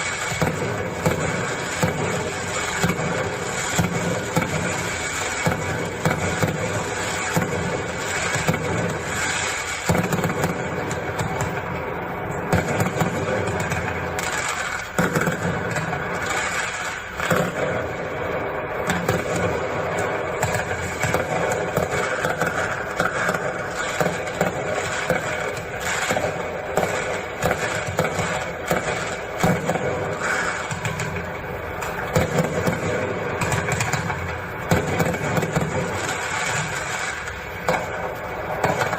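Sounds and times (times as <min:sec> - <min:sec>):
firework cake rapid shots: 0:00.0 - 0:38.9.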